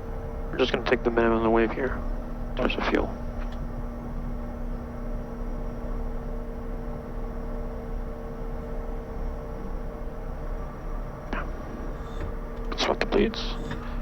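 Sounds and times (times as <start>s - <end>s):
steady cockpit hum: 0.0s - 14.0s.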